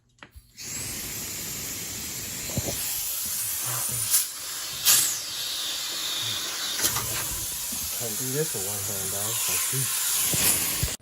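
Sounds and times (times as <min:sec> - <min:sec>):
nitrogen hissing from a line: 0:00.5 - 0:11.0.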